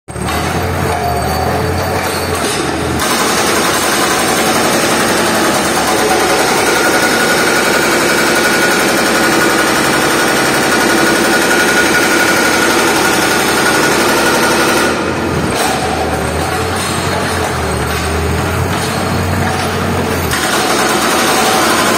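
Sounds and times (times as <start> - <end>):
hydraulic breaker hammering concrete: 0.1 - 21.9.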